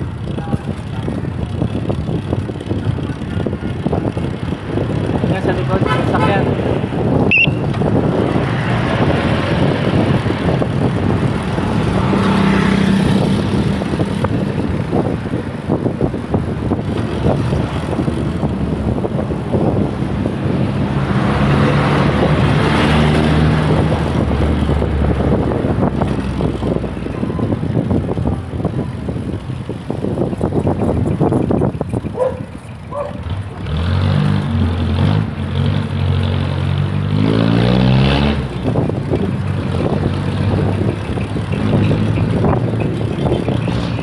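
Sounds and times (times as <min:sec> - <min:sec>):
motor vehicle passing: 0:00.0 - 0:44.0
road traffic: 0:00.0 - 0:44.0
wind rushing over microphone: 0:00.0 - 0:44.0.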